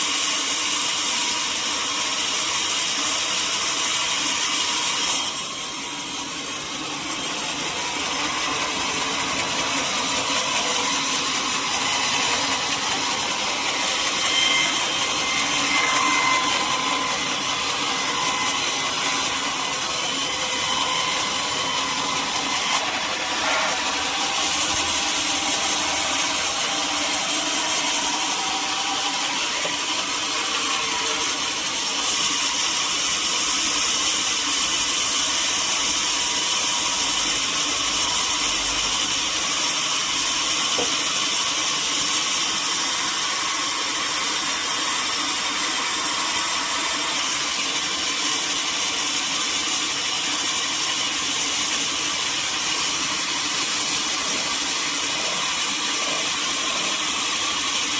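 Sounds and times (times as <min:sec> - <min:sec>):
sawmill saw cutting wood: 0:00.0 - 0:57.9.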